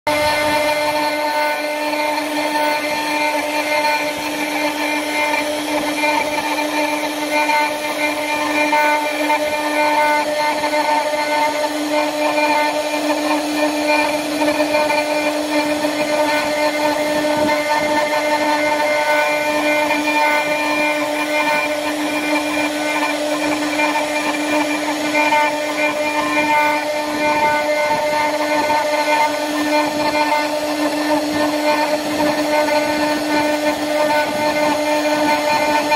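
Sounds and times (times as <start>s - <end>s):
router bit cutting wood: 0.0s - 35.9s
router spindle whine: 0.0s - 35.9s.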